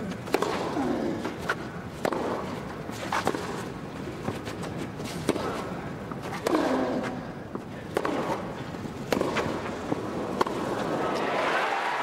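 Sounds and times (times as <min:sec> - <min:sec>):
tennis rackets hitting ball: 0:00.2 - 0:11.0.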